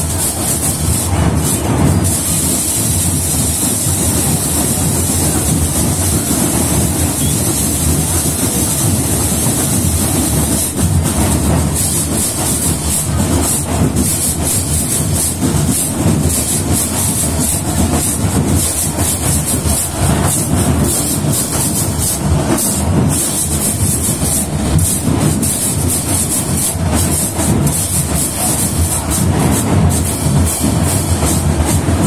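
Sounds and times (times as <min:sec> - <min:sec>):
marching band percussion: 0:00.0 - 0:32.0
noisy crowd: 0:00.0 - 0:32.0.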